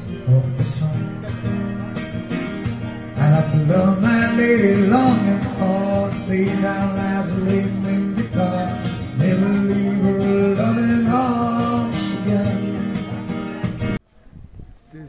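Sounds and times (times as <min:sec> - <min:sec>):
man singing: 0:00.0 - 0:02.3, 0:03.1 - 0:13.3
acoustic guitar strumming: 0:00.0 - 0:14.0.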